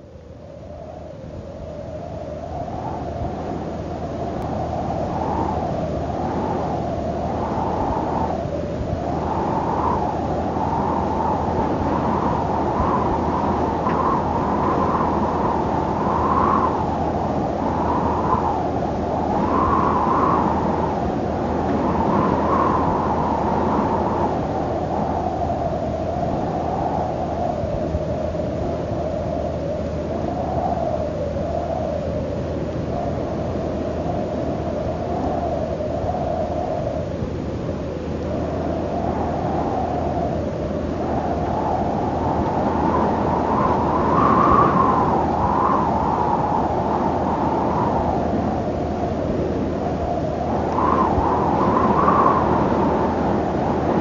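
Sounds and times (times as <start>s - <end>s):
wind blowing: 0.0s - 54.0s.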